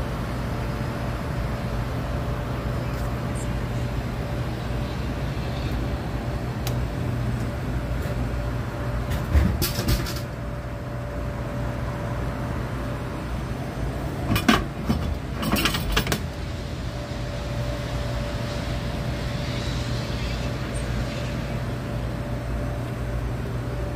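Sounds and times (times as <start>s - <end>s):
vending machine humming: 0.0s - 23.9s.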